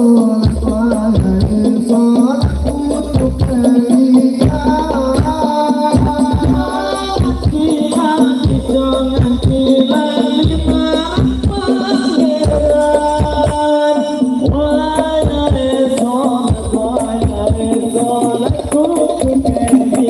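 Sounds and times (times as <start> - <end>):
devotional music over loudspeakers: 0.0 - 20.0.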